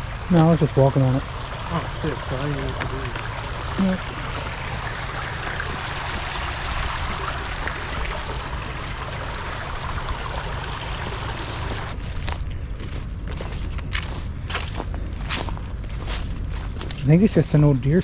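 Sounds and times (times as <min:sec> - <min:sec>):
rushing noise with low rumble: 0:00.0 - 0:18.0.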